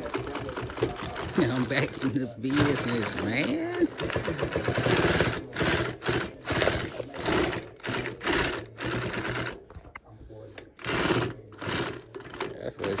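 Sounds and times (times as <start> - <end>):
industrial sewing machine stitching: 0.0 - 9.6, 10.8 - 13.0.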